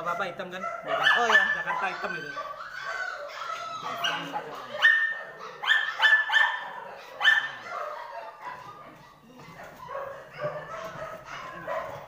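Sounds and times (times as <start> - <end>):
dog barking high-pitched: 0.0 - 12.0.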